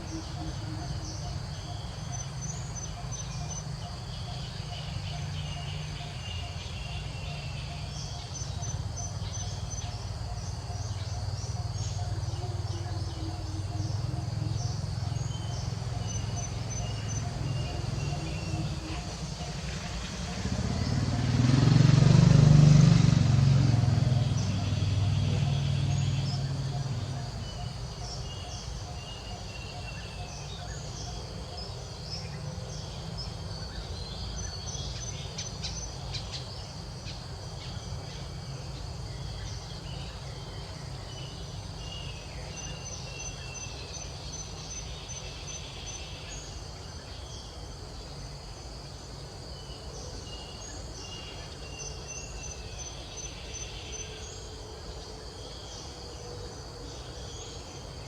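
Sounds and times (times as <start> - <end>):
insects buzzing and trilling: 0.0 - 58.0.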